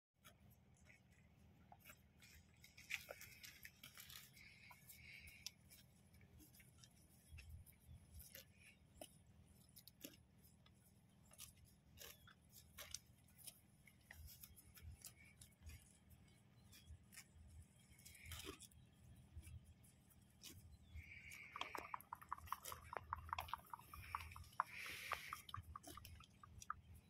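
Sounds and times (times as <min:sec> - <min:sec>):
animals cropping and chewing grass: 0:00.2 - 0:27.0.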